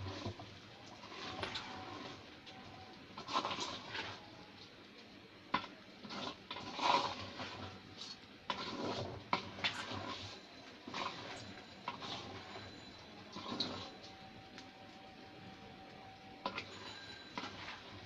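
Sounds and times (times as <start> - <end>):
utensil clinking and scraping in pot: 0.0 - 4.4, 5.5 - 15.3, 16.3 - 18.0.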